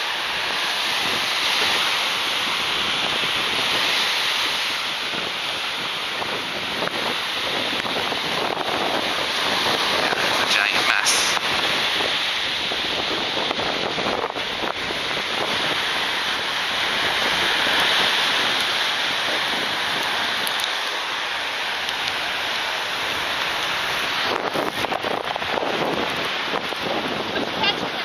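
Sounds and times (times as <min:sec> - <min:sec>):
small waves breaking: 0:00.0 - 0:28.0.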